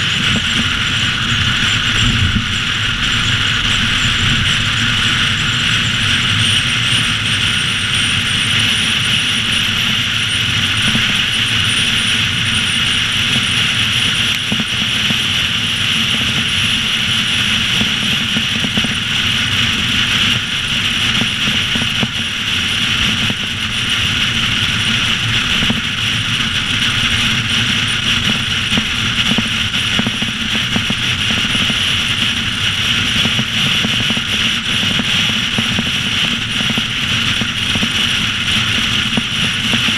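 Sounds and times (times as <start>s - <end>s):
wind noise of driving car: 0.0s - 39.9s.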